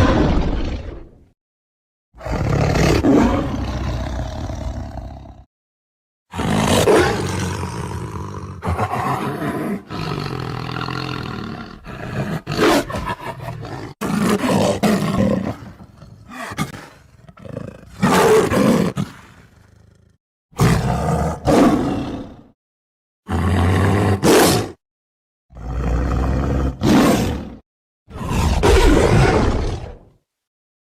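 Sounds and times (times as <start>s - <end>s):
tiger roaring and growling: 0.0s - 1.2s, 2.2s - 5.5s, 6.3s - 22.6s, 23.3s - 24.8s, 25.5s - 30.2s.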